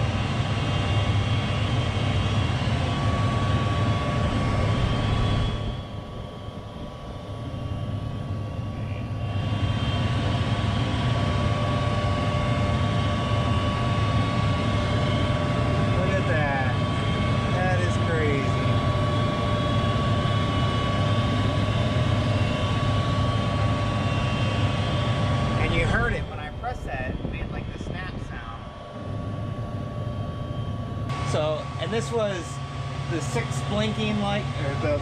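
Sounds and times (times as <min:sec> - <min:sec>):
furnace fan hum with whine: 0:00.0 - 0:35.0.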